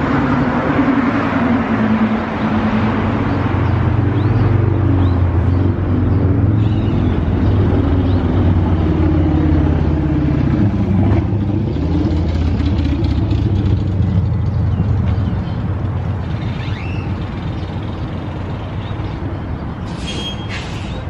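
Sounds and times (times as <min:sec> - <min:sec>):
road traffic rumbling: 0:00.0 - 0:21.0.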